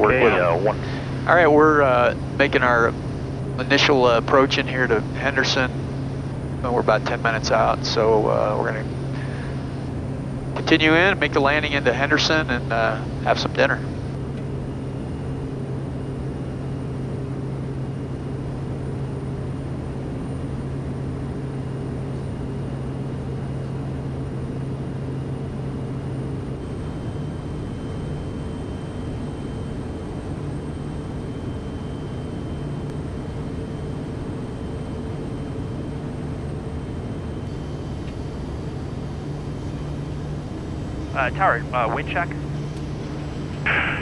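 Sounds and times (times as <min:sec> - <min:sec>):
turboprop engine drone: 0:00.0 - 0:44.0.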